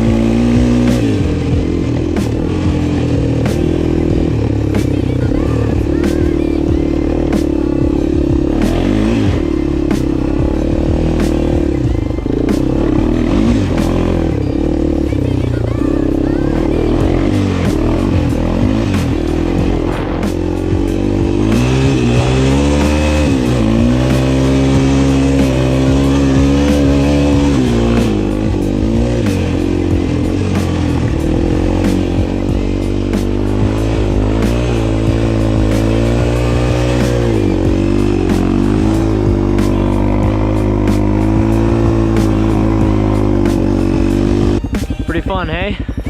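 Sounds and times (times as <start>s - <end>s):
quad engine revving: 0.0s - 46.0s.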